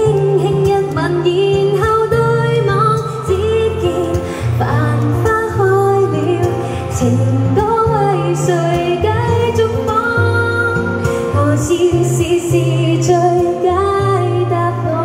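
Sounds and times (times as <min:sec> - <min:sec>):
guitar: 0:00.0 - 0:15.0
woman singing into microphone: 0:00.0 - 0:15.0.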